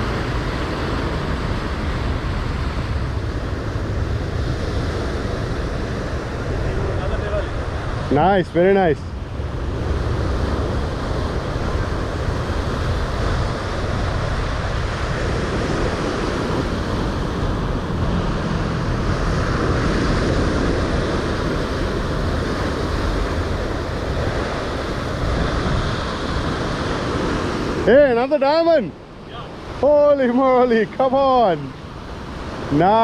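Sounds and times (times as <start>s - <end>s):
surf washing against rocky shore: 0.0s - 33.0s
wind buffeting microphone: 0.0s - 33.0s.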